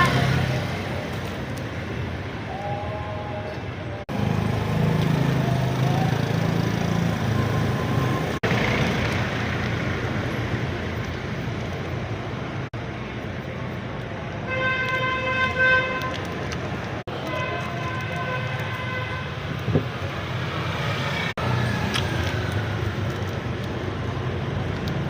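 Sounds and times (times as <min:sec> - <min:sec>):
traffic-like background noise: 0:00.0 - 0:25.0.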